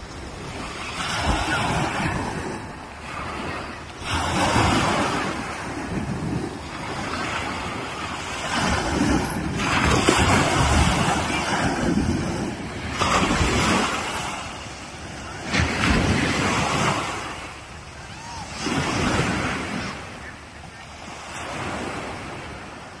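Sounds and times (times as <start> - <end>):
small waves breaking on sand: 0.0 - 23.0.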